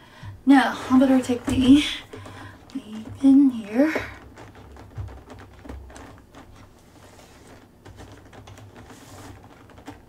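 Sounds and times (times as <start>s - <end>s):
wrapping rustling: 0.6s - 10.0s.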